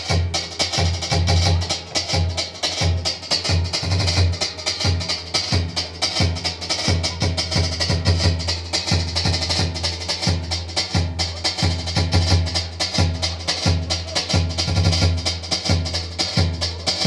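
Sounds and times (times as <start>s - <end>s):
driving drum beat: 0.0s - 17.0s
instrumental dance music: 0.0s - 17.0s.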